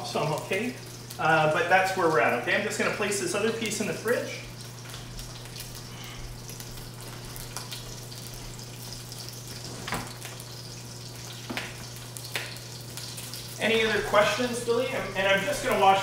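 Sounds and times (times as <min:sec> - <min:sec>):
fish sizzling in a pan: 0:00.0 - 0:16.0
low steady hum: 0:00.0 - 0:16.0.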